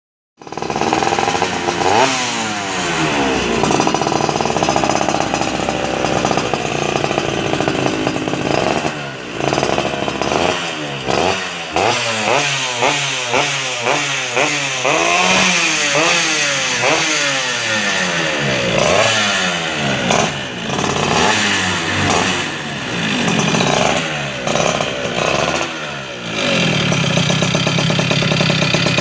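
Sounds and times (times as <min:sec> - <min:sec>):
two-stroke engine revving: 0:00.4 - 0:29.0.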